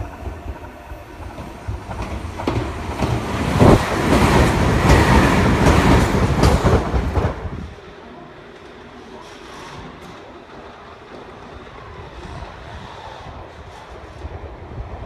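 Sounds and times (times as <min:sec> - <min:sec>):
electric train wheels clacking: 0:00.0 - 0:15.0.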